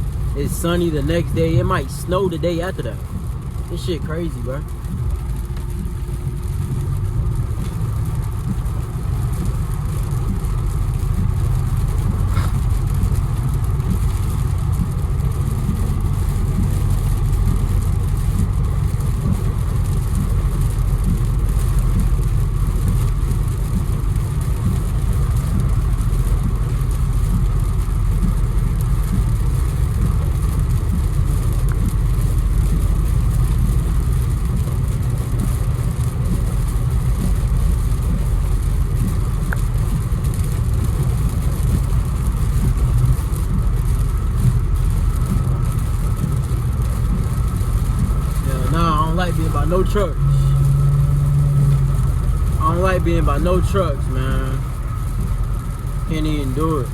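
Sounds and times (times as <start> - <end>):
car engine and tyres rumbling: 0.0 - 56.9
tyres hissing on wet road: 0.0 - 56.9.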